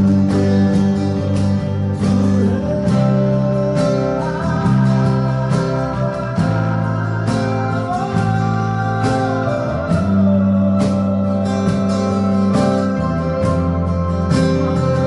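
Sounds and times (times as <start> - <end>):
guitar-led worship music: 0.0 - 15.0.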